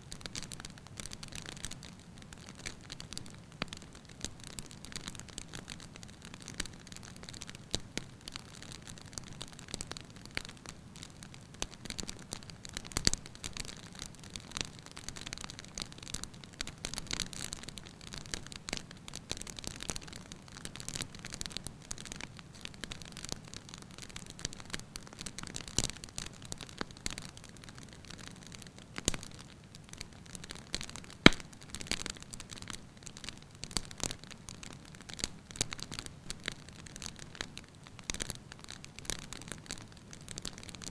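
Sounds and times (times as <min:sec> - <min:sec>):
wood fire crackling and popping: 0:00.1 - 0:40.9.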